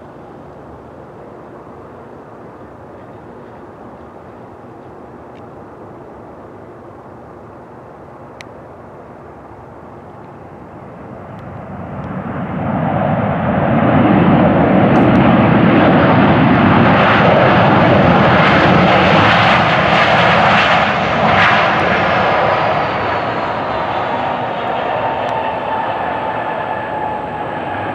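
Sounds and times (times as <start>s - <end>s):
jet engines reverse thrust roar: 0.0s - 27.9s.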